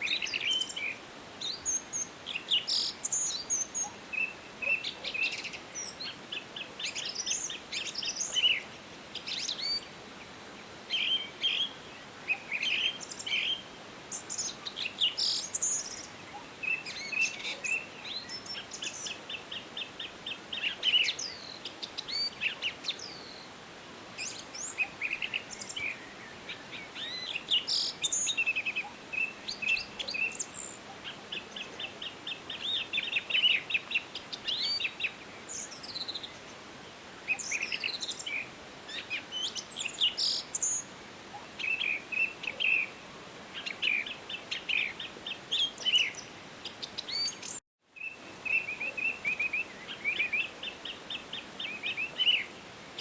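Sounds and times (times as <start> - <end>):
faint steady hiss: 0.0 - 53.0
songbirds singing and chirping: 0.0 - 53.0.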